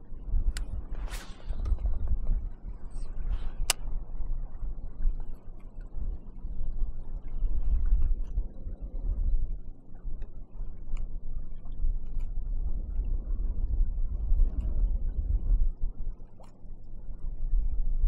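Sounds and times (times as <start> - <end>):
wading in shallow water: 0.0 - 18.0
wind buffeting microphone: 0.0 - 18.0.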